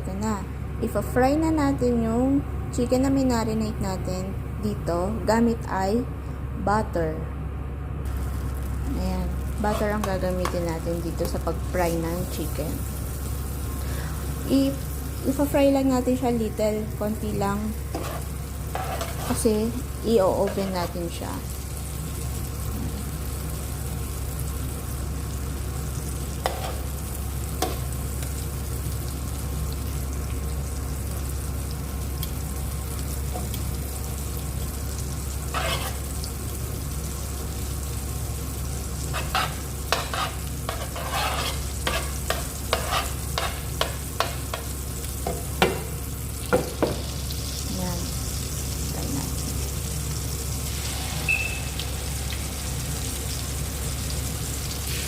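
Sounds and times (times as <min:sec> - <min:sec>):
chicken sizzling in a pan: 0:08.1 - 0:55.0.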